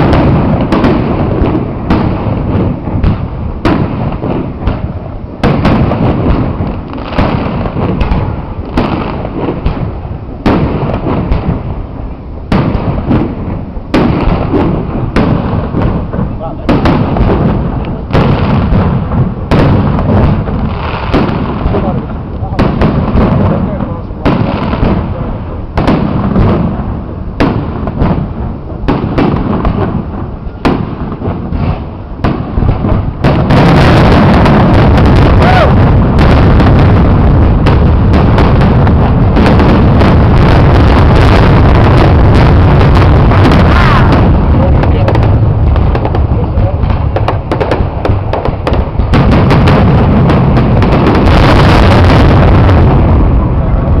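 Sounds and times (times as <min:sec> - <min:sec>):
low rumble of fireworks show: 0:00.0 - 0:54.0.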